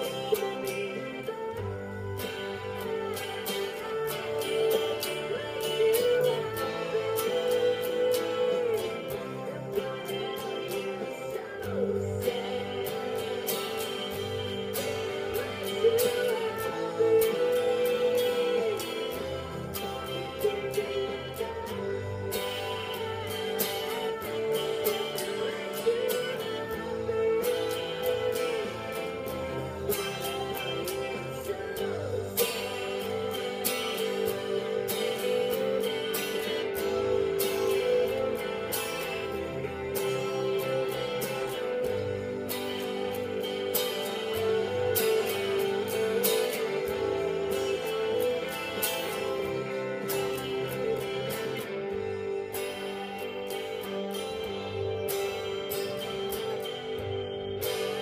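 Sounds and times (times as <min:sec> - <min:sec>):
electric guitar strumming: 0:00.0 - 0:58.0
rock band recording: 0:00.0 - 0:58.0.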